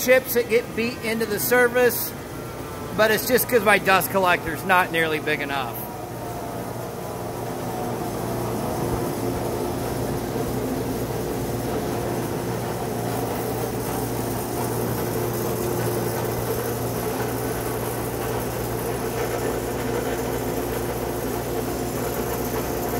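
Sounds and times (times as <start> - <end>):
dust collector whirring: 0.0 - 22.9
planer machine hum: 0.0 - 22.9.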